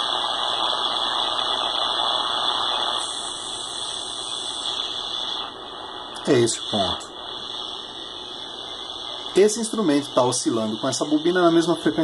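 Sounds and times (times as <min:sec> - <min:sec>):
high-pitched tone in static: 0:00.0 - 0:12.0
radio static hiss: 0:00.0 - 0:12.0.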